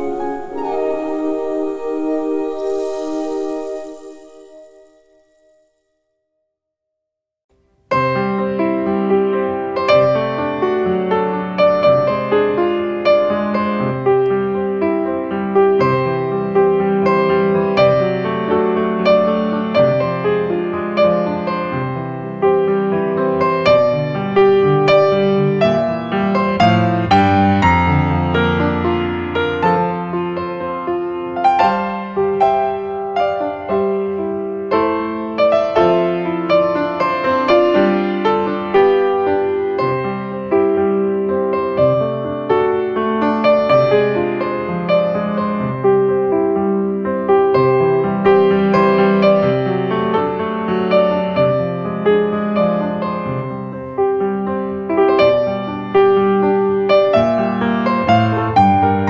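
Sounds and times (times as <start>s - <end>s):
gentle piano melody: 0.0s - 5.7s, 7.9s - 59.0s.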